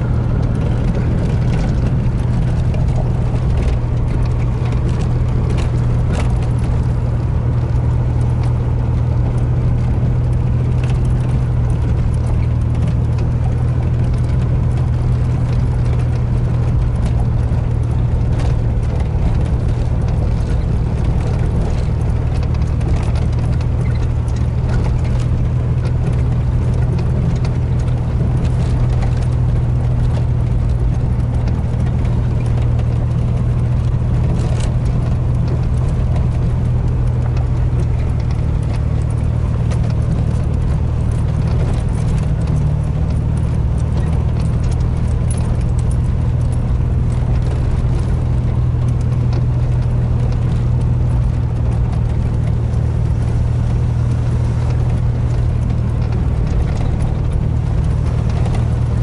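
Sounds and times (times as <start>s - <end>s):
ticks and rattles in vehicle cab: 0.0s - 59.0s
vehicle engine drone: 0.0s - 59.0s.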